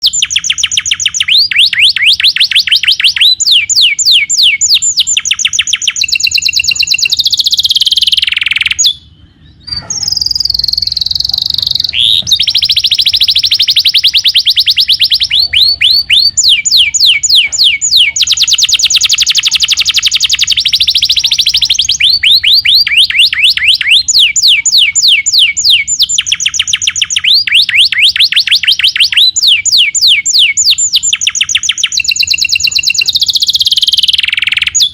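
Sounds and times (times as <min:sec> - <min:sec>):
canary singing in trills: 0:00.0 - 0:34.9.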